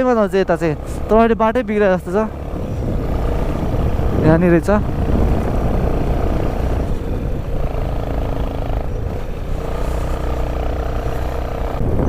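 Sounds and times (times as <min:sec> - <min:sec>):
motorcycle engine running: 0:00.0 - 0:12.0
wind rumble on microphone: 0:00.8 - 0:12.0.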